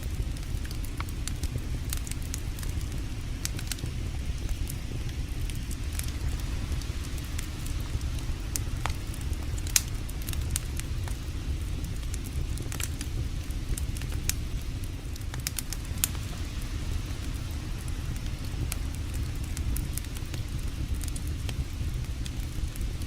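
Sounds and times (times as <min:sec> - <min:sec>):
campfire crackling: 0:00.0 - 0:23.0
sharp fire pops: 0:00.0 - 0:23.0
steady low rumble: 0:00.0 - 0:23.0.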